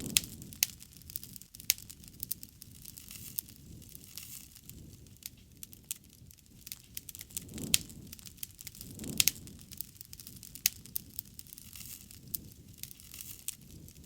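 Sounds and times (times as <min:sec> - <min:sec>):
campfire crackling and popping: 0:00.0 - 0:14.0
low rumble of burning: 0:00.0 - 0:14.0.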